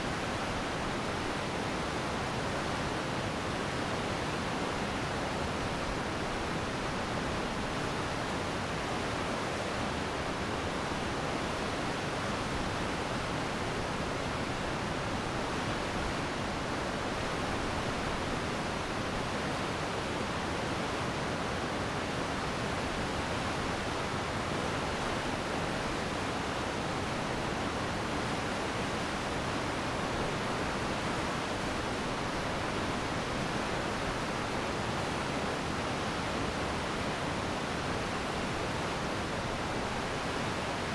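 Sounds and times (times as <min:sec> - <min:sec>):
stream rushing over rocks: 0:00.1 - 0:40.9.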